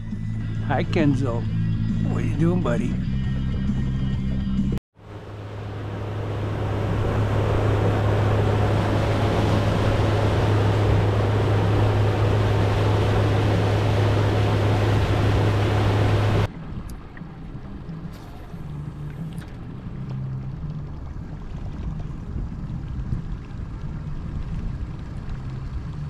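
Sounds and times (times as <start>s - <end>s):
outboard motor drone: 0.0s - 26.0s
rush of wind and water: 5.0s - 26.0s.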